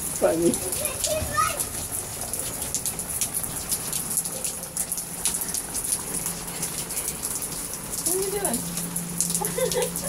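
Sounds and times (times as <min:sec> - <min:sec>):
raindrops ticking: 0:00.0 - 0:10.0
steady rain: 0:00.0 - 0:10.0.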